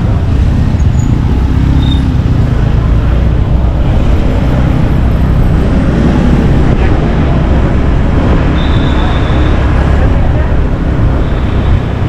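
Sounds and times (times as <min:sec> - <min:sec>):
motorcycle engine: 0:00.0 - 0:12.0
traffic: 0:00.0 - 0:12.0
wind roaring on microphone: 0:00.0 - 0:12.0.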